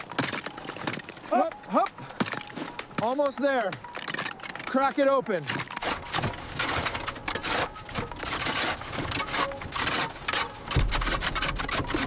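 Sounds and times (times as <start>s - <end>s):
hand tools knocking and scraping: 0.0s - 12.0s.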